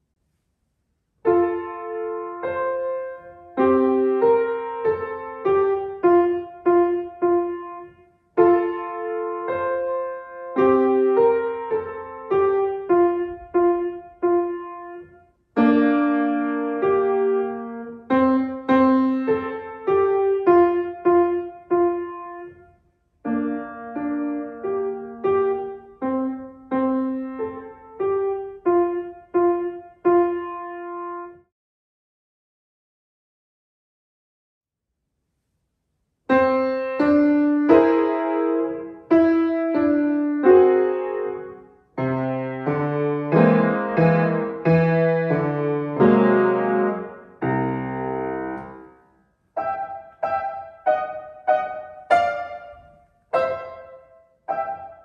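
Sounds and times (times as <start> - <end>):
child playing piano melody: 1.2 - 31.5, 36.3 - 55.0.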